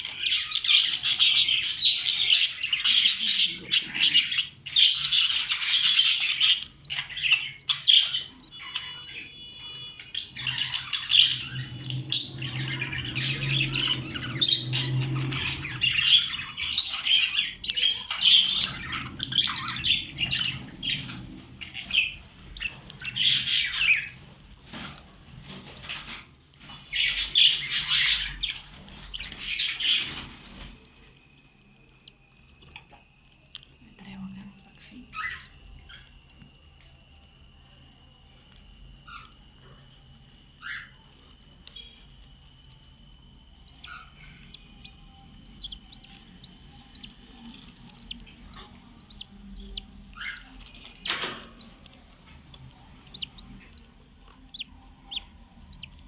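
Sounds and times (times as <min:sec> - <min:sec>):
budgerigars chattering and chirping: 0:00.0 - 0:32.2, 0:33.9 - 0:37.6, 0:39.0 - 0:56.0.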